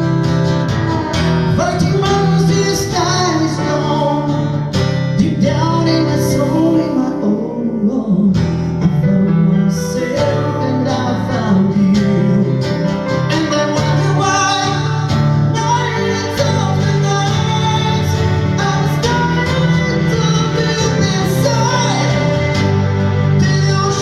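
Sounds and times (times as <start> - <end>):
guitar strumming: 0.0 - 24.0
person singing: 0.0 - 24.0.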